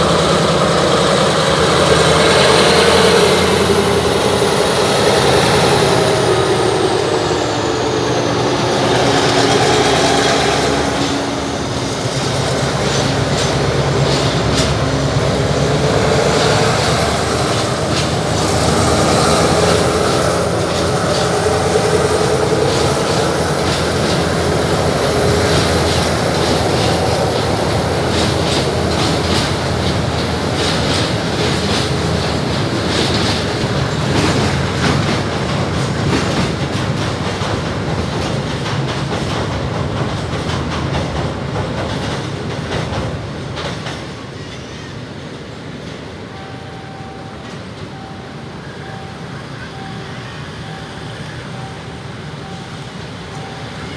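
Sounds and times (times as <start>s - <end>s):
train rumble: 0.0s - 53.9s
train wheels clicking over rail joints: 0.0s - 53.9s.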